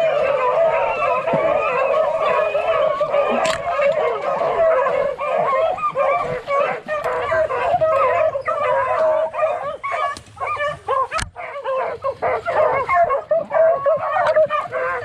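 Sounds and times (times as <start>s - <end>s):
dogs barking and yipping: 0.0s - 15.0s.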